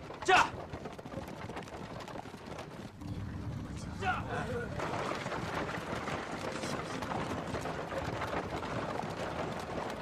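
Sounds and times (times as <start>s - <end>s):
crowd footsteps: 0.0s - 10.0s
horse hoofbeats: 0.0s - 10.0s.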